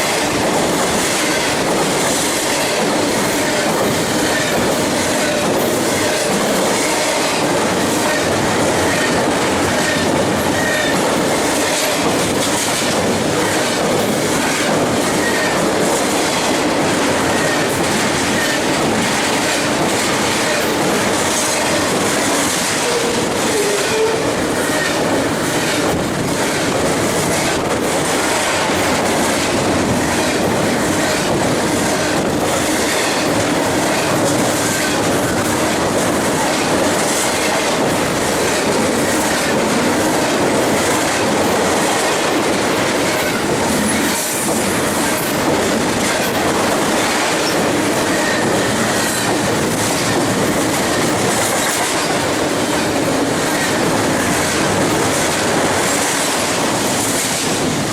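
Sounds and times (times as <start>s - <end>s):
train wheels clacking over rail joints: 0.0s - 57.9s.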